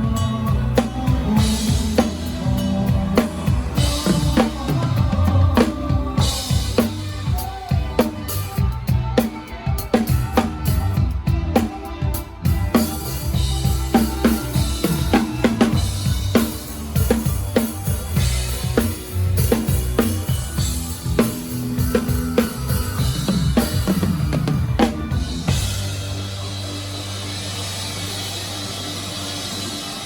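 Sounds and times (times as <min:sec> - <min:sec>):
bass and band instruments: 0:00.0 - 0:30.0
drum kit beat: 0:00.0 - 0:30.0.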